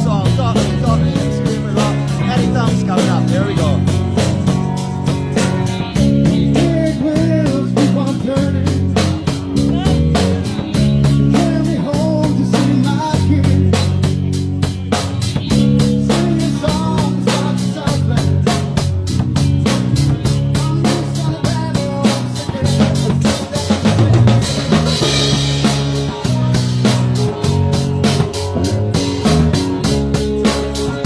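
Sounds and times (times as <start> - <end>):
bass guitar: 0.0 - 31.0
drum kit beat: 0.0 - 31.0
electric guitar: 0.0 - 31.0.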